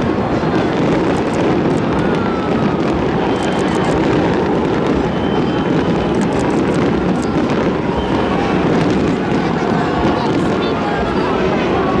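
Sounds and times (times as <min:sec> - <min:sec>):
fireworks barrage rumbling: 0:00.0 - 0:12.0
fireworks crackles: 0:00.0 - 0:12.0.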